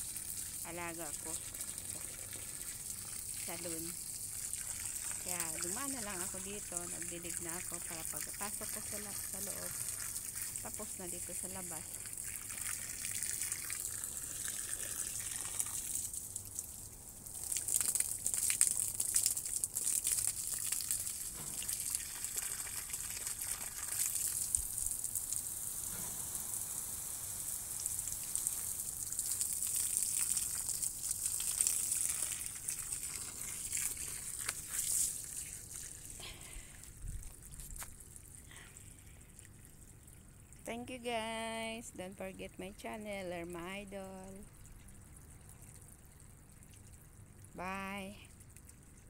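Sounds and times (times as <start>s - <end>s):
water spraying onto soil: 0.0s - 39.6s.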